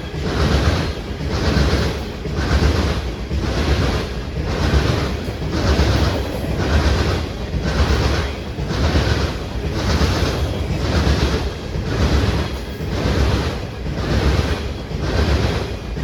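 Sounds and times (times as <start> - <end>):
train cars rolling past: 0.0 - 16.0.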